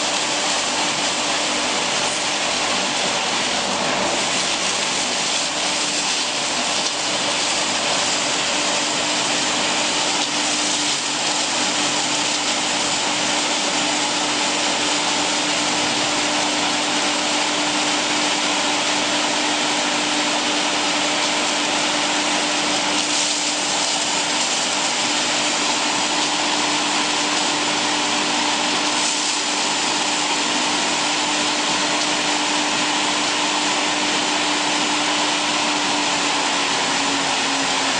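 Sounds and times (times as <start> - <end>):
hammer mill and blower running: 0.0 - 37.9.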